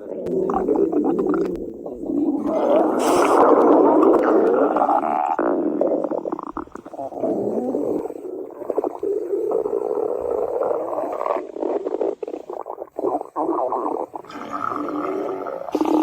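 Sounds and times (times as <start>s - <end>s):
cartoon stomach growl: 0.0s - 16.0s.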